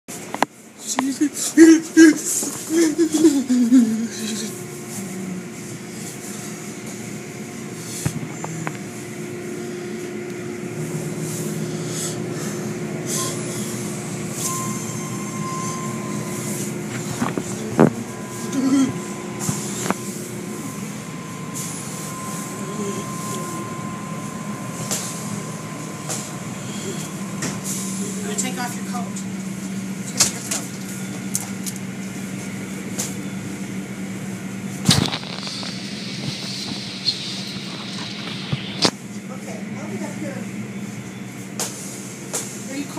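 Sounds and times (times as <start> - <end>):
car wash machinery hum: 0.1 - 42.9.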